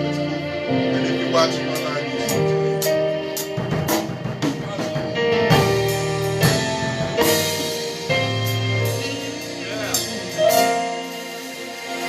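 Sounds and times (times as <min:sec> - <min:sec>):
live worship band music: 0:00.0 - 0:12.0
drum kit hits and cymbals: 0:01.7 - 0:12.0.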